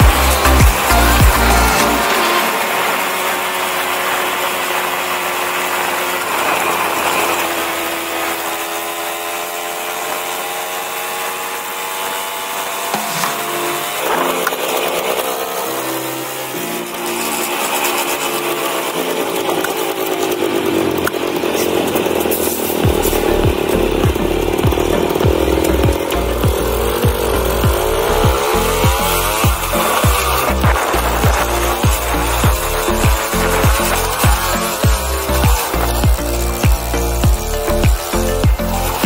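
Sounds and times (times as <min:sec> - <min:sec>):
motorcycle engine buzzing: 0:00.0 - 0:39.0.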